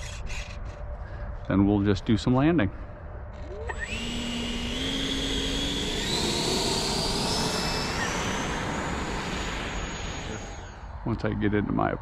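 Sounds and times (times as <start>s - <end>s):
electric ducted fan whine: 0.0s - 12.0s.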